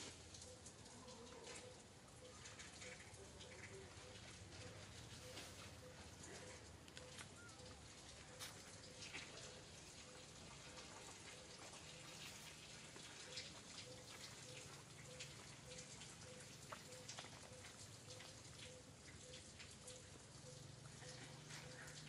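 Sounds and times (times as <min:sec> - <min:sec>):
faint background hiss: 0:00.0 - 0:22.0
light ticks: 0:00.3 - 0:22.0.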